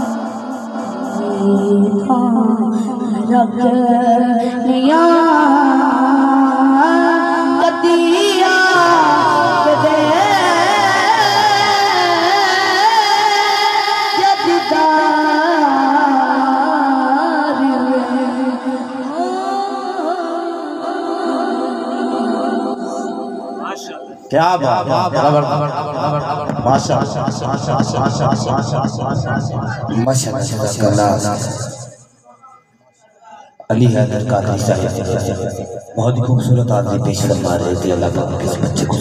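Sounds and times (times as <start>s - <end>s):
boy singing through loudspeakers: 0.0s - 39.0s.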